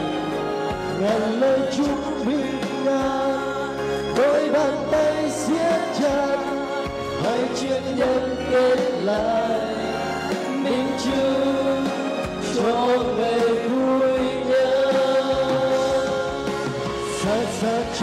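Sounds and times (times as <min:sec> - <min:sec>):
instrumental accompaniment: 0:00.0 - 0:18.0
man singing into microphone: 0:00.0 - 0:18.0.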